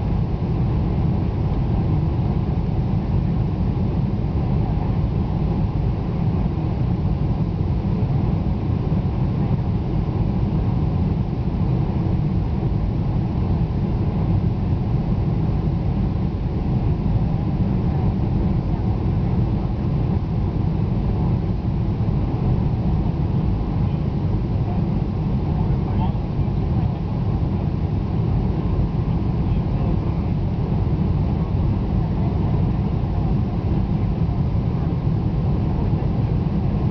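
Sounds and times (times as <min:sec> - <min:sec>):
airliner cabin engine rumble: 0:00.0 - 0:36.9.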